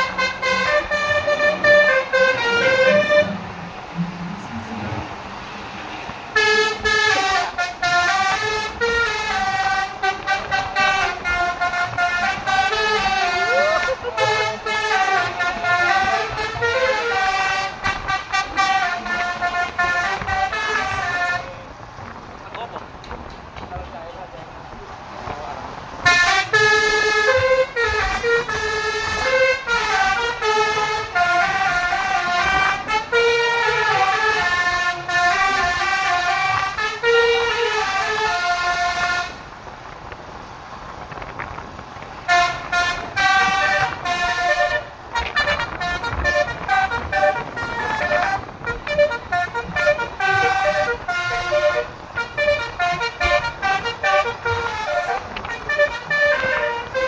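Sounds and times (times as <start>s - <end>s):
musical bus horn melody: 0.0s - 4.5s, 6.3s - 21.7s, 26.0s - 39.6s, 42.2s - 57.0s.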